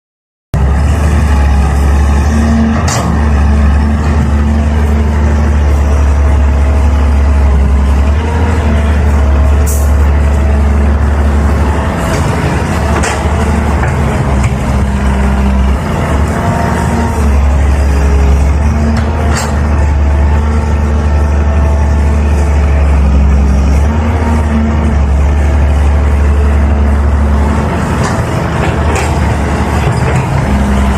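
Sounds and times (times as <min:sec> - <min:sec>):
excavator diesel engine droning: 0:00.6 - 0:30.9.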